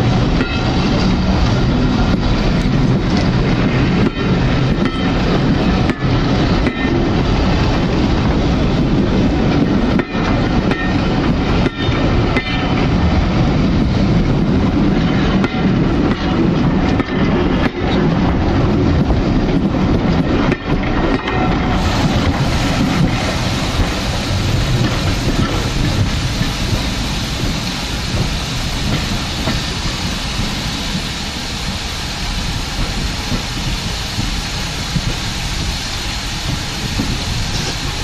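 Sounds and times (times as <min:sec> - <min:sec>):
rumble of train running gear: 0:00.0 - 0:38.0
train wheels clacking over rail joints: 0:00.0 - 0:38.0.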